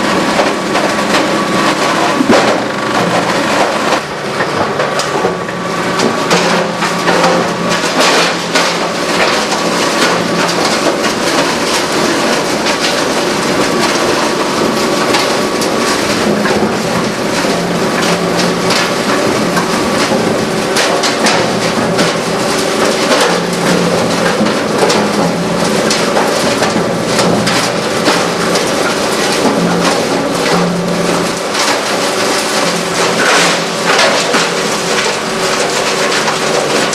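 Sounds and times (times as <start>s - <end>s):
granulator machine hum: 0.0s - 36.9s.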